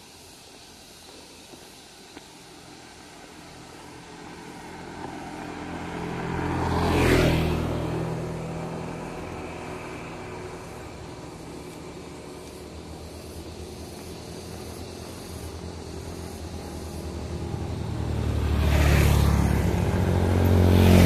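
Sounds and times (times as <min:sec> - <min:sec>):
motor scooter passing: 0:00.5 - 0:21.0.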